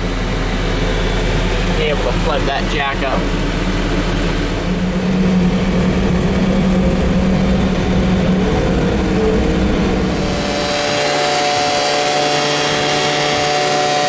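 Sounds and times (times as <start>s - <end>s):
farm machine engine running: 0.0s - 14.0s.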